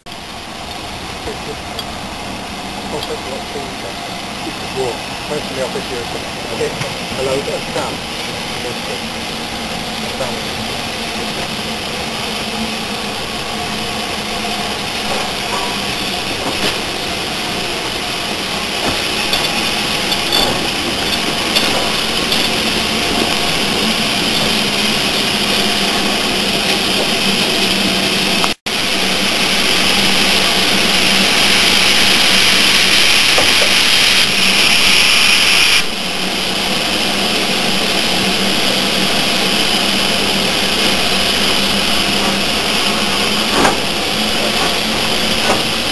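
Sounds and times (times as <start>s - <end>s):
steam locomotive hissing: 0.0s - 45.9s.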